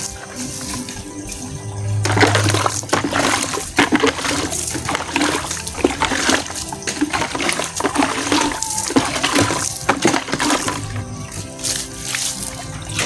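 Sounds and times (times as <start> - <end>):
water pouring from bucket: 0.0 - 13.0.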